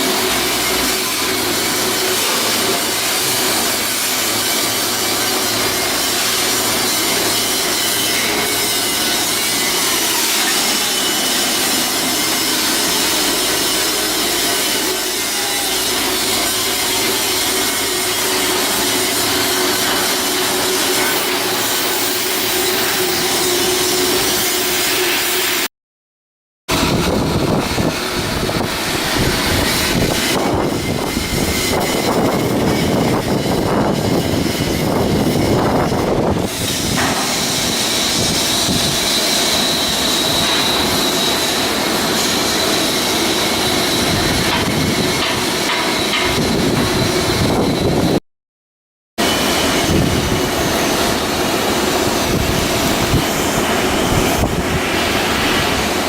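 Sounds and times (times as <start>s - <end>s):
power tools on steel: 0.0s - 25.7s, 26.7s - 48.2s, 49.2s - 56.0s
rough uneven machine noise: 0.0s - 25.7s, 26.7s - 48.2s, 49.2s - 56.0s.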